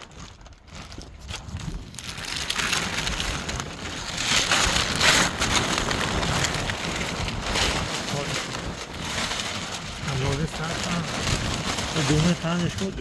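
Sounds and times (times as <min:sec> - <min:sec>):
plastic sheeting crinkling: 0:00.0 - 0:13.0.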